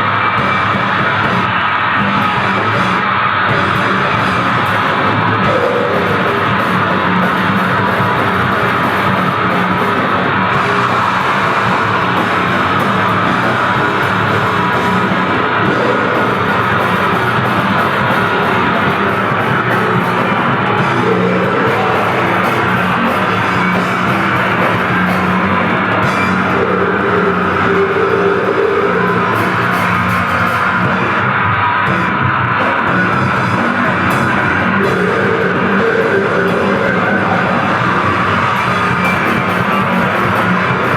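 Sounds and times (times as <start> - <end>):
bass guitar: 0.0 - 40.9
distorted electric guitar: 0.0 - 40.9
drum kit: 0.0 - 40.9.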